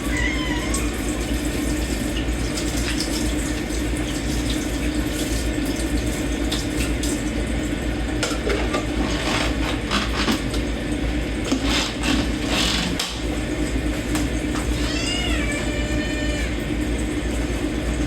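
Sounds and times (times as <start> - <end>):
water splashing and running: 0.0 - 18.0.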